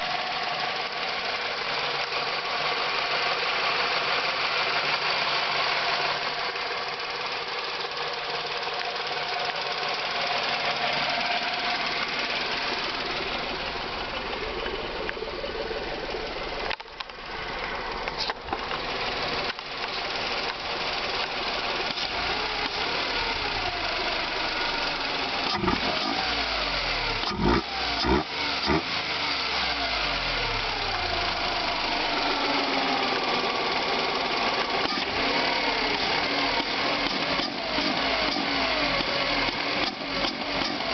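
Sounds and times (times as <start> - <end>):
car engine running and revving: 0.0 - 40.9.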